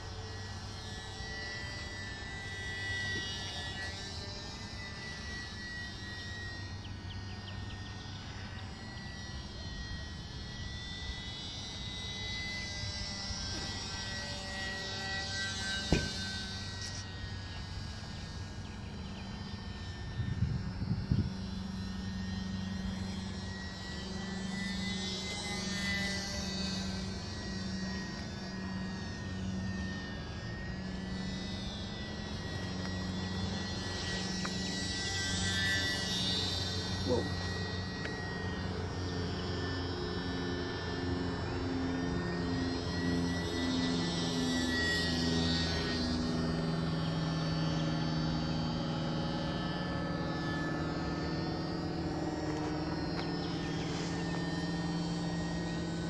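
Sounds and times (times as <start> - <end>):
model airplane motor whine: 0.0 - 56.0.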